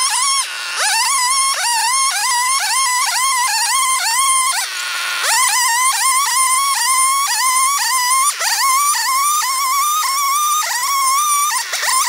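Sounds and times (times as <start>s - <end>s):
chainsaw cutting a plank: 0.0s - 12.0s.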